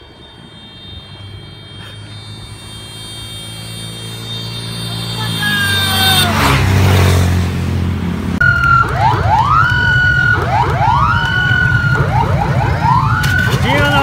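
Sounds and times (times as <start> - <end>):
motor scooter engine hum: 0.0 - 14.0
scooter passing: 0.0 - 14.0
sirens whooping: 0.0 - 14.0.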